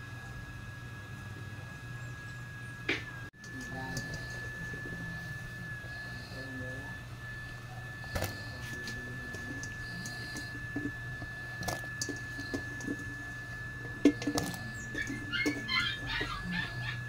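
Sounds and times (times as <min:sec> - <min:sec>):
steady low hum: 0:00.0 - 0:17.0
water boiling in a pot: 0:03.3 - 0:17.0.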